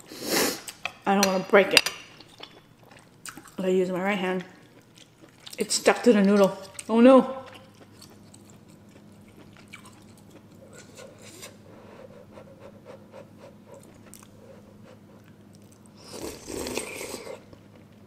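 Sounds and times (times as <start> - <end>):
mouthful eating sound: 2.8 - 18.0.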